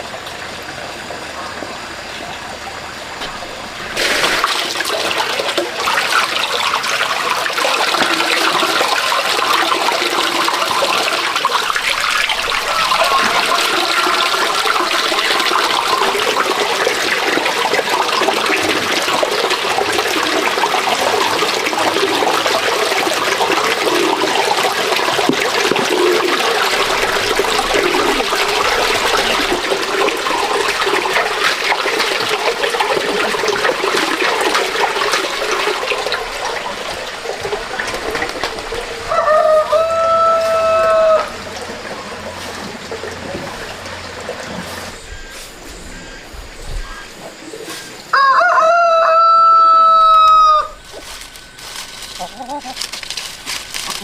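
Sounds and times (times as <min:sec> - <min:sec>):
water pouring and splashing: 0:00.0 - 0:54.0.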